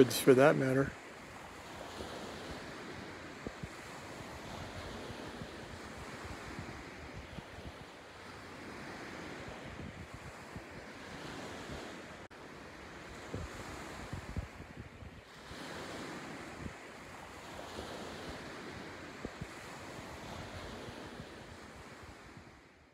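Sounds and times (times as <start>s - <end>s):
wind buffeting microphone: 0.0s - 22.8s
small waves lapping on beach: 0.0s - 22.9s.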